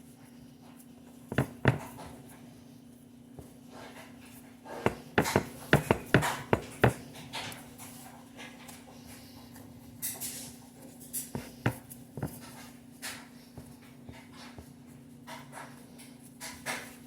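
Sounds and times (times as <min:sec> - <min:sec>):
steady low hum: 0:00.0 - 0:16.2
dough squishing and rustling: 0:00.0 - 0:17.0.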